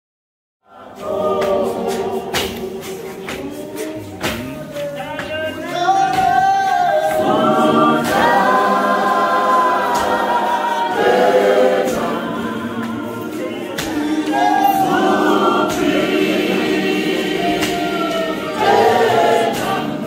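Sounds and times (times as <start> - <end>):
congregation singing a hymn: 0.7 - 20.0.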